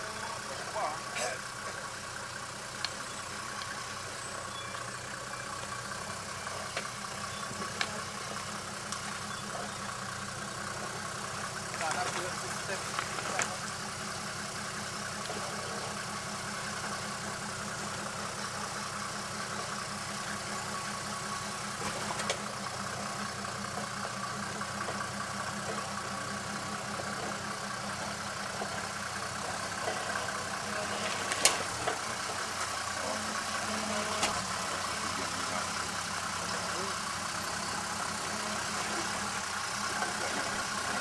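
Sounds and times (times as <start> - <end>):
car engine running at low revs: 0.0 - 41.0.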